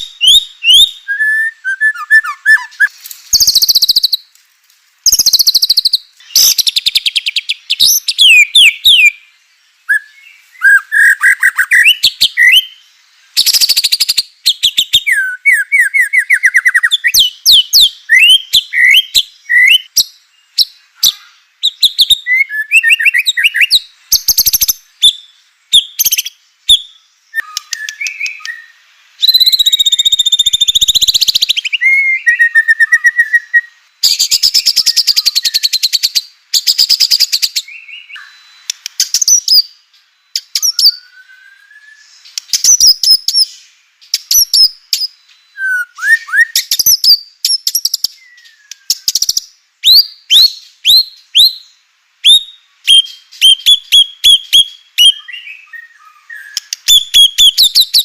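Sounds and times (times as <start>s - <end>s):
bird singing whistled notes: 0.0s - 4.3s, 5.0s - 58.0s.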